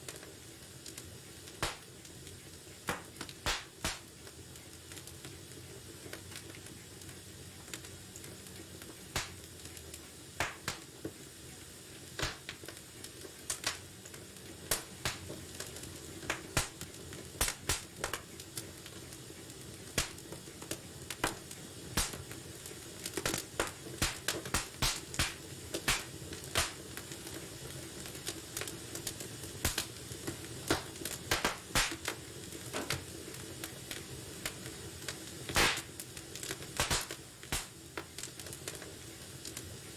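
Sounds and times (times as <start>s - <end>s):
low hiss of burning: 0.0s - 39.9s
wood fire crackling and popping: 0.0s - 39.9s.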